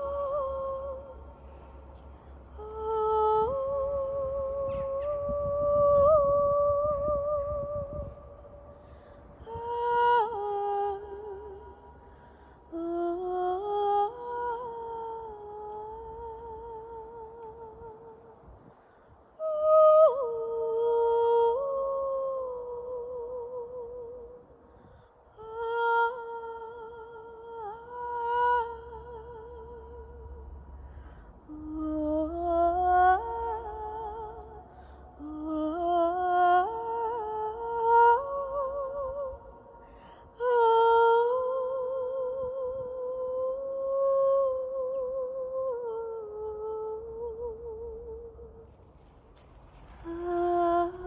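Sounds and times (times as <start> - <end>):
woman singing wordlessly: 0.0 - 1.4, 2.6 - 12.0, 12.7 - 18.5, 19.4 - 24.6, 25.3 - 30.4, 31.5 - 48.7, 50.0 - 51.0.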